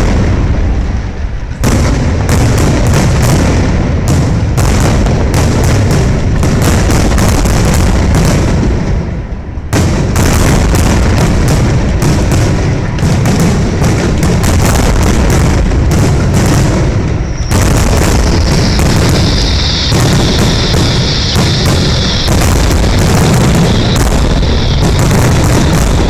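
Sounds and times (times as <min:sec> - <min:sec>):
fireworks booming: 0:00.0 - 0:26.0.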